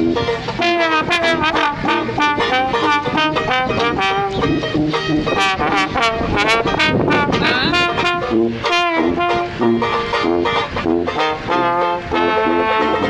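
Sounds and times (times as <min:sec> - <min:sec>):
strummed banjo: 0:00.0 - 0:13.0
trombone melody: 0:00.0 - 0:13.0
tuba bass line: 0:00.0 - 0:13.0.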